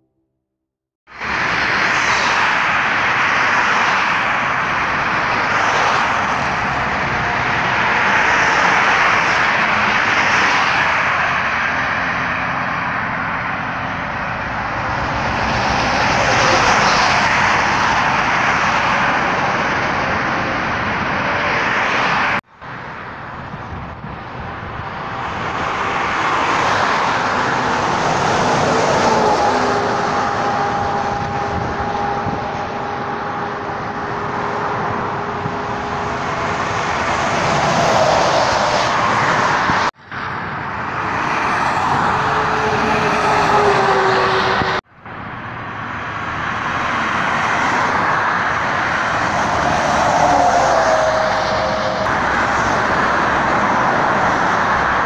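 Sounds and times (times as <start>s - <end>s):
highway traffic passing: 1.1s - 55.0s
vehicle whine: 1.1s - 55.0s.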